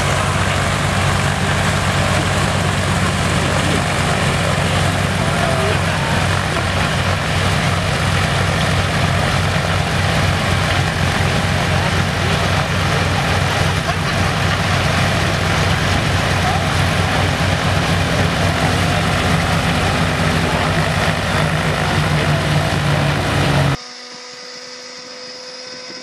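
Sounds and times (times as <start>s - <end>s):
radial aircraft engine pulsing: 0.0s - 26.0s.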